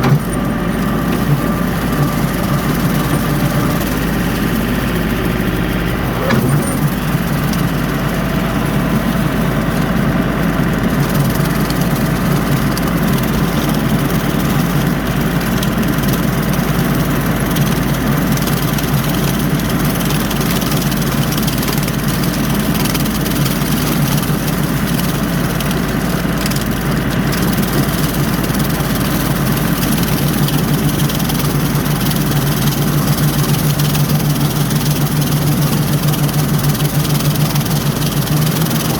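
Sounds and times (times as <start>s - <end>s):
rotary cutter mowing: 0.0s - 38.9s
tractor diesel engine running: 0.0s - 38.9s.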